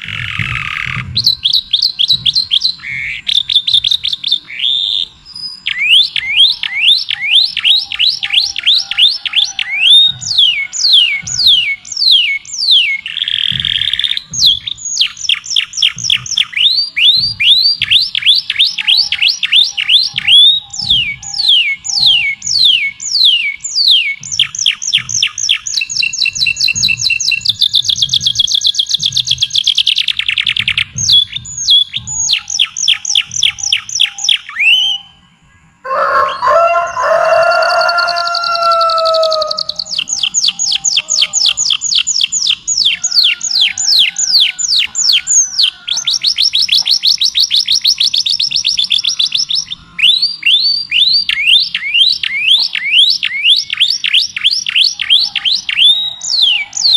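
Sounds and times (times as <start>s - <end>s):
songbird trilling: 0.0s - 35.2s, 35.8s - 56.9s
low layered bird call: 0.0s - 56.9s.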